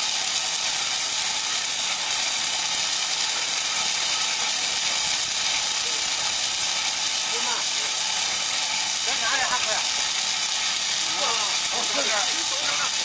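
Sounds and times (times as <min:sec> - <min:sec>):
corn puffing machine running: 0:00.0 - 0:13.0.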